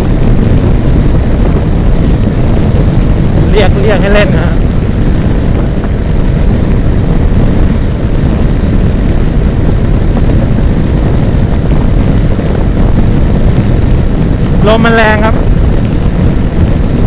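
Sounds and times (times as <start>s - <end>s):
scooter engine drone: 0.0s - 17.0s
wind buffeting microphone: 0.0s - 17.0s.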